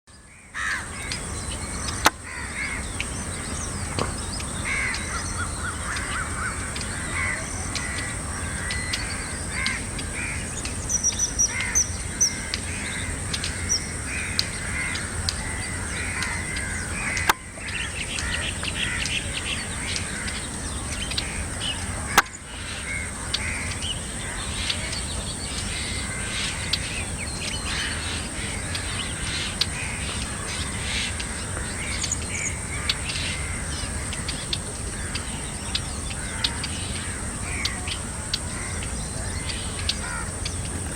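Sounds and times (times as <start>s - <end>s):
birds calling: 0.1s - 40.9s
steady high-pitched hiss: 0.1s - 40.9s.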